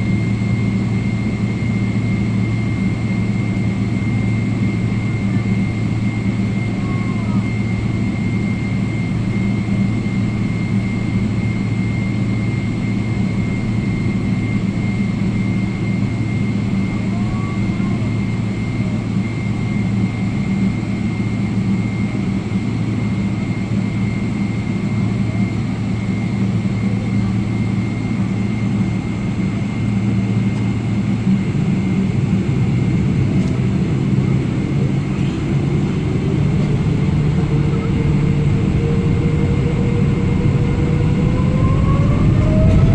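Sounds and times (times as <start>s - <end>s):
jet engines whining: 0.0s - 42.9s.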